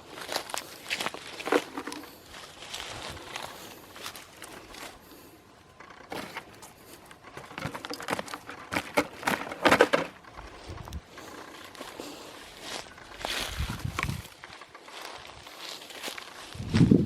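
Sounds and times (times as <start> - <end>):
rustling and crackling of dry brush: 0.0 - 17.0.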